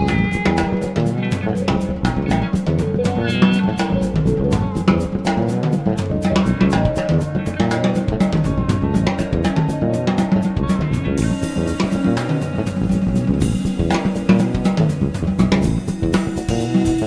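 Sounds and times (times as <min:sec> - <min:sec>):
drum kit beat: 0:00.0 - 0:17.0
electric bass: 0:00.0 - 0:17.0
electric guitars: 0:00.0 - 0:17.0
wavering guitar note: 0:00.0 - 0:17.0.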